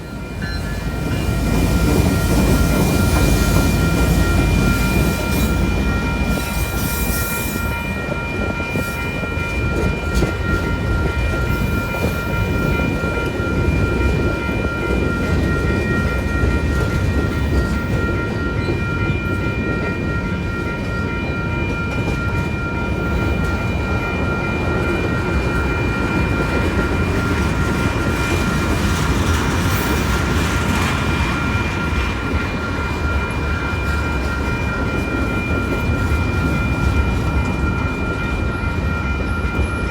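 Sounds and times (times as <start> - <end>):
crossing bells ringing: 0.0 - 39.9
freight train wheels clattering: 0.0 - 39.9.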